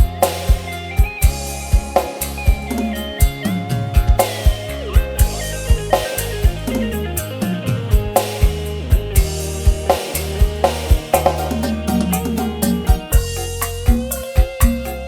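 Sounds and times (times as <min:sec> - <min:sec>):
dangdut music with keyboard: 0:00.0 - 0:15.0
heavy bass thumps: 0:00.0 - 0:15.0.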